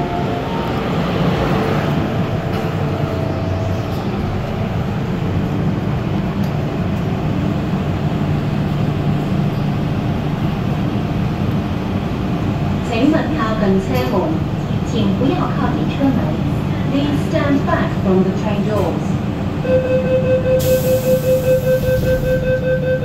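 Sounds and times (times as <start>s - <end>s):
metro car equipment hum: 0.0s - 23.0s.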